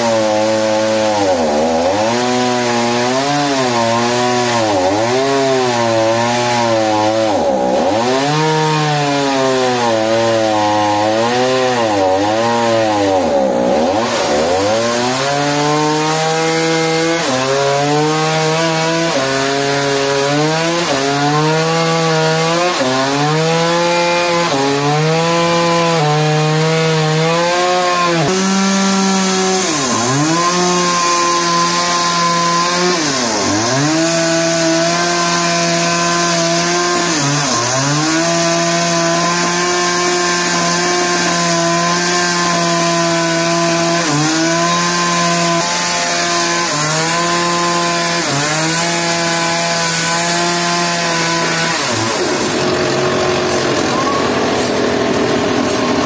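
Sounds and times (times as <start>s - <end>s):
chainsaw cutting at high revs: 0.0s - 56.0s.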